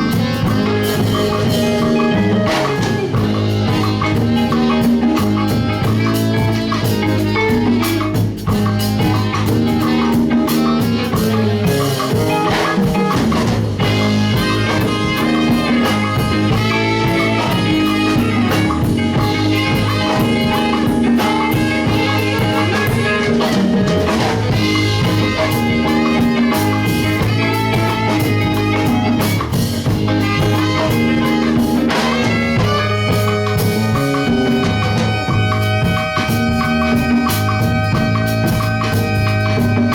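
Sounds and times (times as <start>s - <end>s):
live band music: 0.0s - 39.9s.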